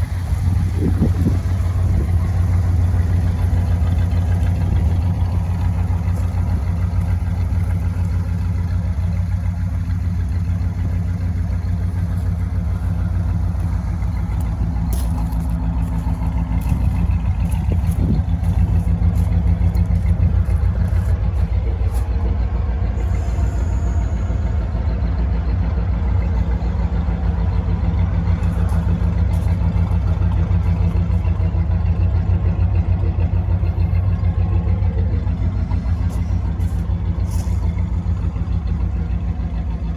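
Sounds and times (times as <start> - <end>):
deep car engine running: 0.0 - 39.9.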